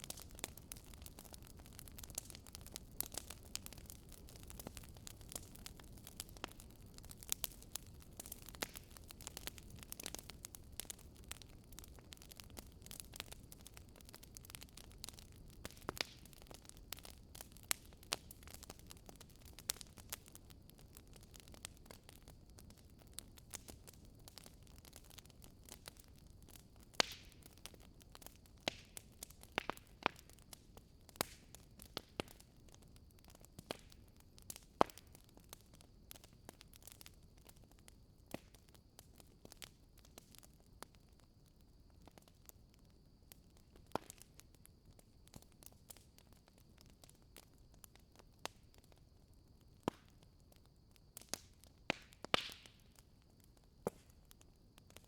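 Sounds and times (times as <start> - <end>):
logs crackling and popping: 0.0 - 55.0.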